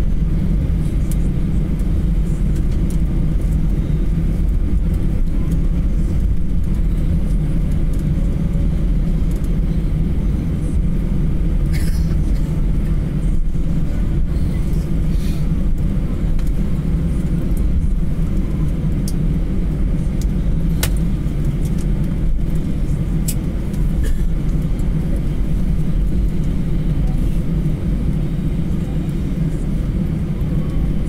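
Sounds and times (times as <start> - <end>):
jet engines idling rumble: 0.0 - 31.0.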